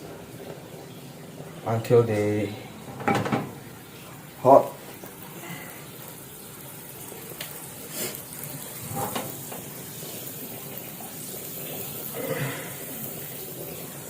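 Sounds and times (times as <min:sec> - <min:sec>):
margarine sizzling in frying pan: 0:00.0 - 0:14.0.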